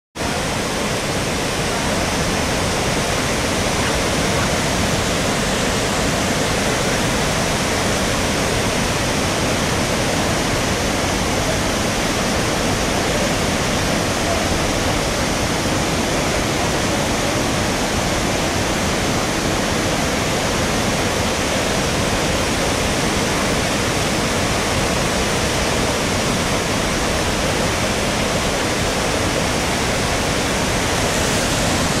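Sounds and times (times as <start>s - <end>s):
water rushing: 0.2s - 32.0s.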